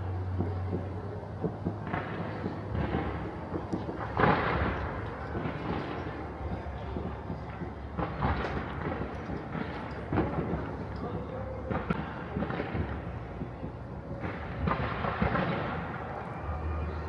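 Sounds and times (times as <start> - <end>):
distant fireworks pops and cracks: 0.3 - 16.6
firework bangs: 0.4 - 11.0, 11.7 - 16.3.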